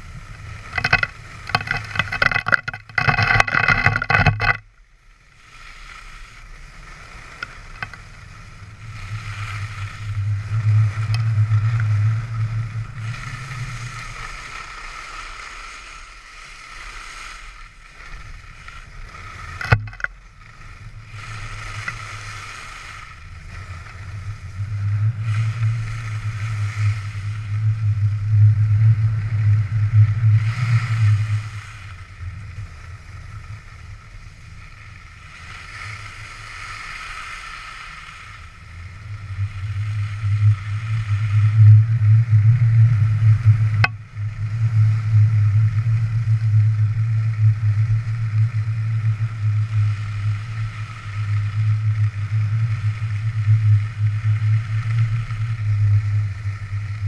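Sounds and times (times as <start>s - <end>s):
wind rushing over microphone: 0.0s - 4.6s, 5.8s - 57.0s
skis sliding over snow: 0.0s - 57.0s.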